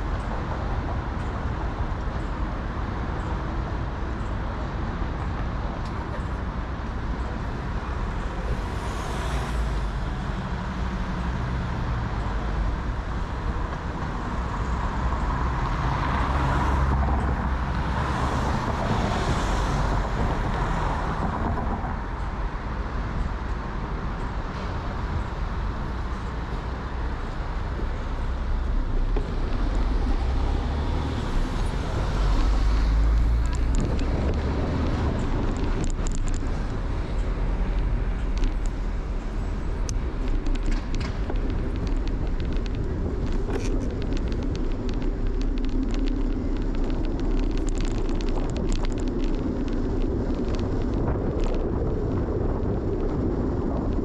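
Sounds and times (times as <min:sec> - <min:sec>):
cars going by: 0:00.0 - 0:54.0.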